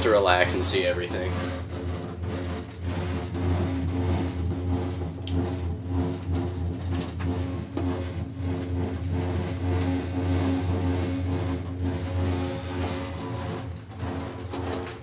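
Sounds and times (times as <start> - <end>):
cable car cabin humming: 0.0 - 2.0, 2.8 - 15.0.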